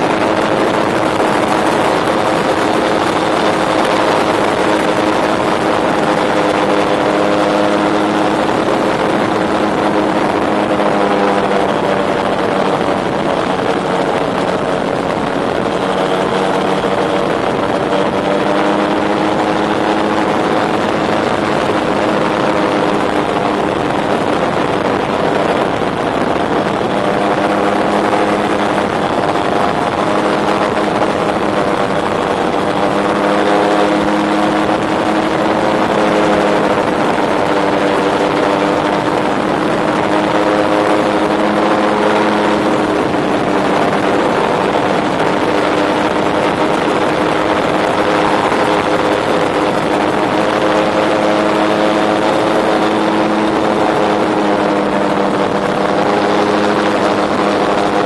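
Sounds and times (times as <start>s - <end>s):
gyroplane engine and propeller: 0.0s - 58.0s.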